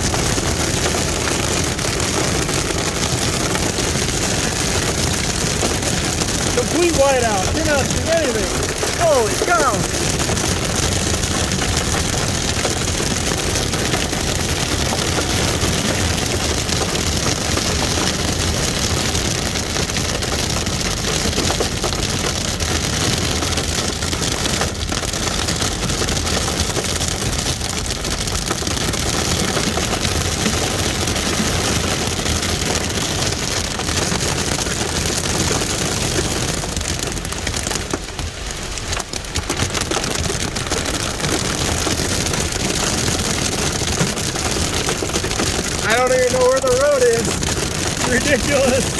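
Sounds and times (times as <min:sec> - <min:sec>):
hail hammering on car roof: 0:00.0 - 0:48.9.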